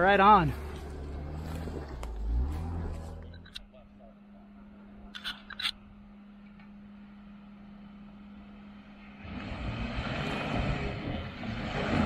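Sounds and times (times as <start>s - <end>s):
engine humming: 0.0s - 12.0s
rough engine and tyre noise: 0.0s - 12.0s.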